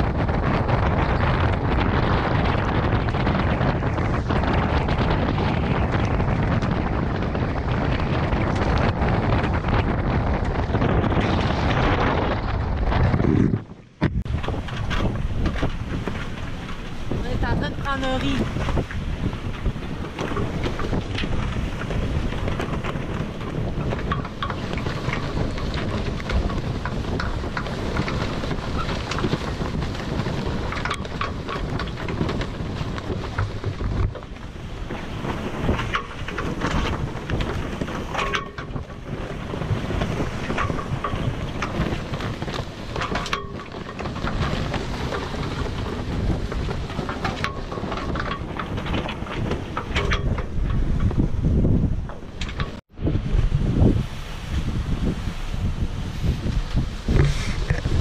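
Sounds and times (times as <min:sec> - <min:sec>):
sea water rushing along hulls: 0:00.0 - 0:58.0
strong wind buffeting microphone: 0:00.0 - 0:58.0.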